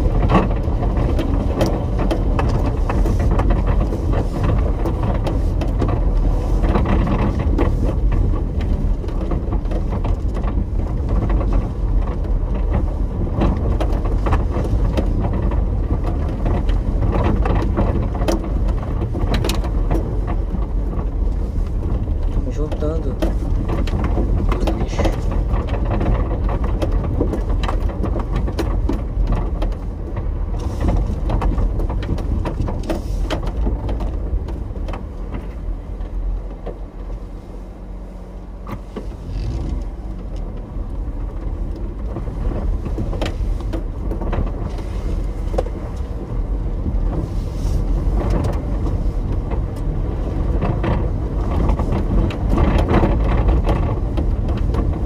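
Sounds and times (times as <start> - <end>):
knocks and rattles: 0.0 - 37.2, 38.7 - 55.0
truck engine running: 0.0 - 55.0
tyres rumbling on loose stones: 0.0 - 55.0.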